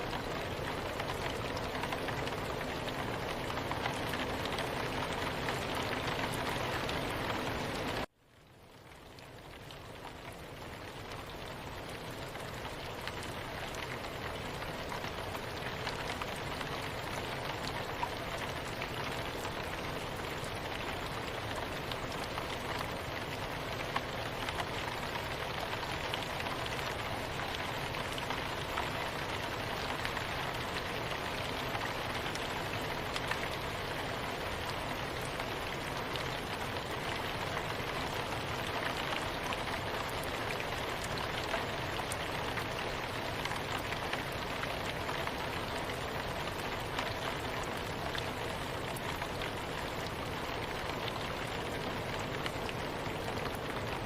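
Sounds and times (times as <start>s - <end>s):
soft steady rain: 0.0s - 54.0s.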